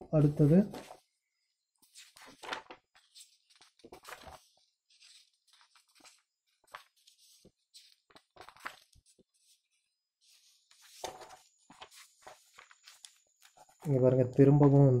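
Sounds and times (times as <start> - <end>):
paper pages rustling: 0.2 - 1.1, 1.8 - 15.0.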